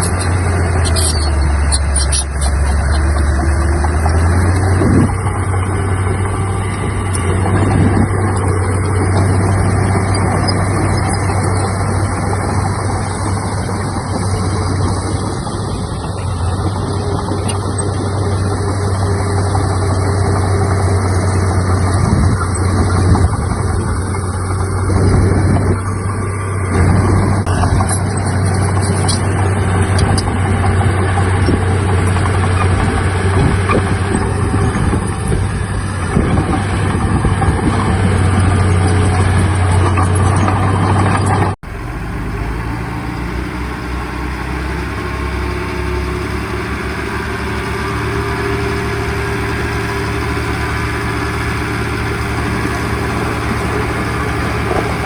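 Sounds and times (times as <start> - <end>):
diesel earthmoving machinery running: 0.0 - 55.0
lower-pitched engine running: 0.0 - 55.0.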